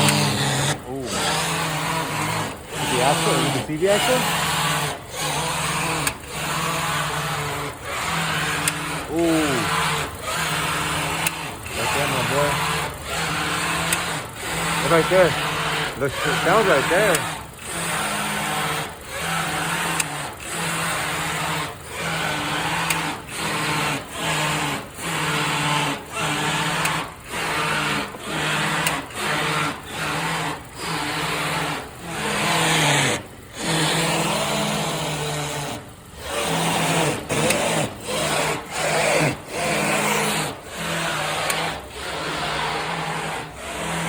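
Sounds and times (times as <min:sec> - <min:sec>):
power steering whine: 0:00.0 - 0:44.0.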